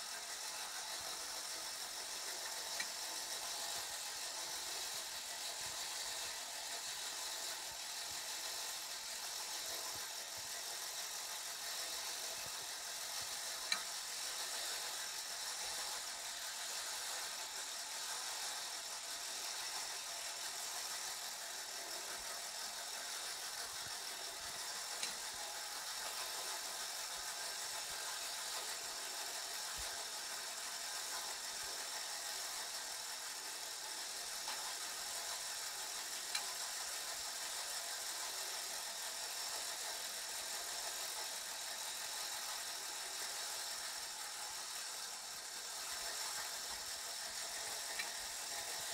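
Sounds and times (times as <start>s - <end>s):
clockwork toy whirring: 0.0s - 48.9s.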